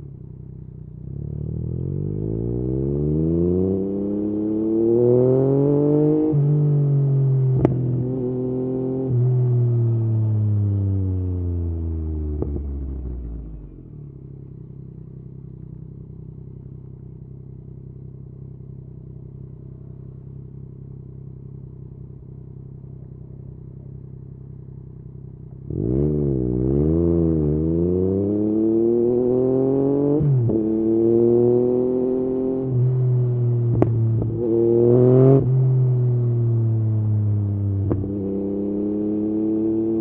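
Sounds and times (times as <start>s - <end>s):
motorcycle engine idling and revving: 0.0s - 40.0s.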